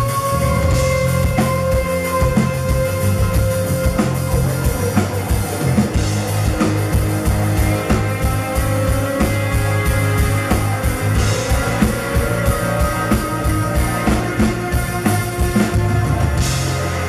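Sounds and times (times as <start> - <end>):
drum kit beat: 0.0 - 17.0
live rock band playing: 0.0 - 17.0.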